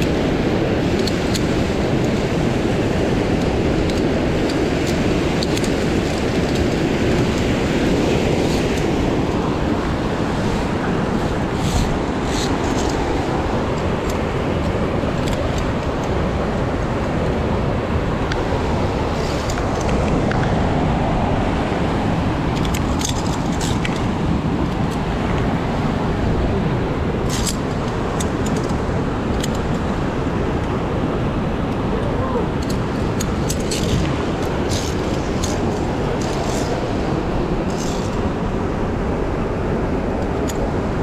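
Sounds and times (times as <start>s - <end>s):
fast-flowing water rushing: 0.0s - 41.0s.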